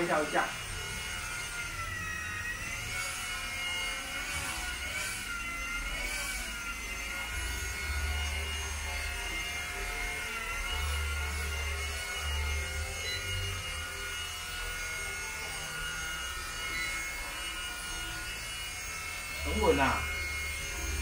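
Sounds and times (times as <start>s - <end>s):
rc helicopter rotor whine: 0.0s - 21.0s.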